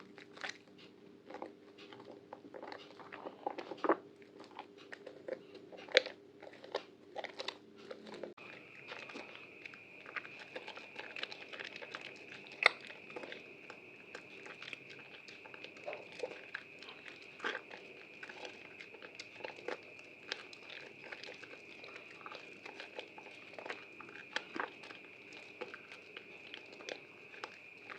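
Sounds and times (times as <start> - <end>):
wet soap crackling and squishing: 0.0 - 27.9.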